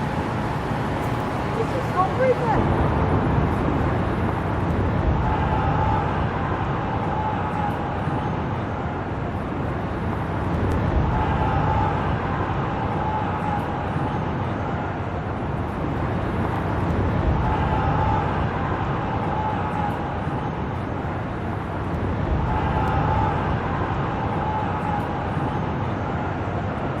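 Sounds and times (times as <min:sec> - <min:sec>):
city traffic noise: 0:00.0 - 0:27.0
vehicles passing by: 0:00.0 - 0:27.0.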